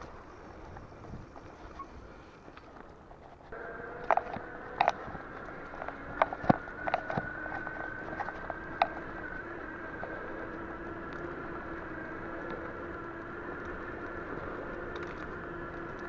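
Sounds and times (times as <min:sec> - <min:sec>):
bicycle clicks and rattles: 0:00.0 - 0:16.0
bicycle wheels whining: 0:00.0 - 0:16.0.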